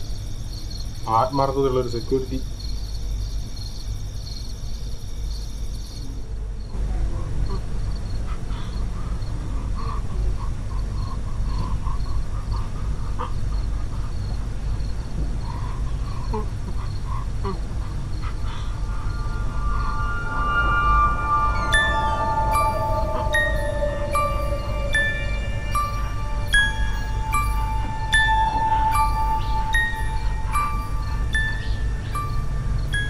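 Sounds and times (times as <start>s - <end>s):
crickets chirping: 0.0s - 33.0s
low steady rumble: 1.8s - 33.0s.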